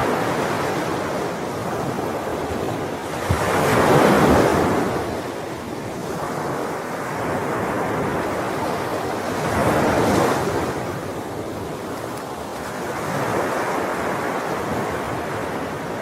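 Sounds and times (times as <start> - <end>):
sea waves washing onto shore: 0.0 - 16.0.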